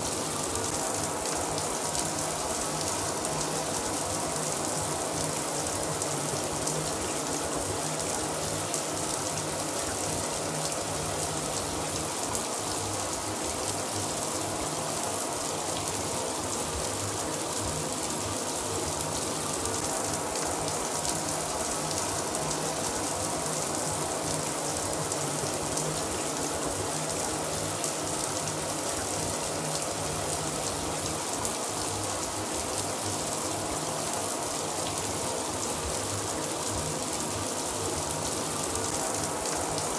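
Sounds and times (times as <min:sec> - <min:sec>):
shower running: 0:00.0 - 0:39.9.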